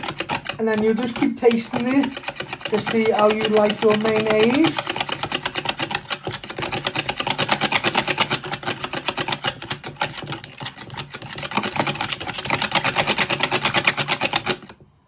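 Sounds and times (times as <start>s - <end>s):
whisk clattering in plastic bowl: 0.0s - 14.9s.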